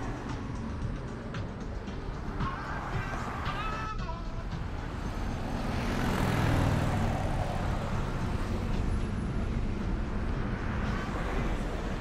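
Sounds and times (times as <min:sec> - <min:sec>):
heavy vehicle engine rumble: 0:00.0 - 0:12.0
road traffic passing: 0:00.0 - 0:12.0.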